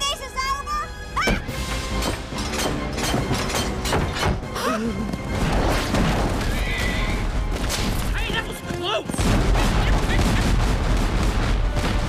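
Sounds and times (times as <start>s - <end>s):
orchestral action music: 0.0s - 12.0s.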